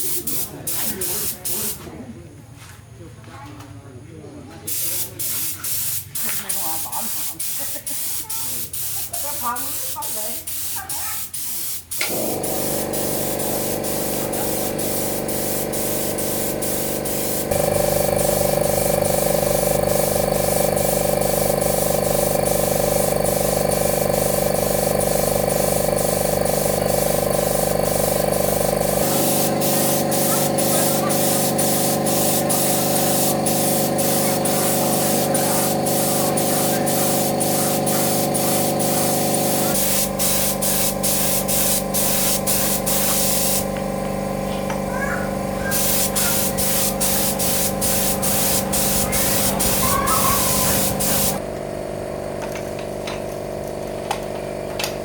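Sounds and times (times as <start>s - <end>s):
air compressor humming: 0.0s - 1.8s, 4.7s - 55.0s
spray gun hissing bursts: 0.0s - 1.8s, 4.7s - 43.8s, 44.9s - 51.4s.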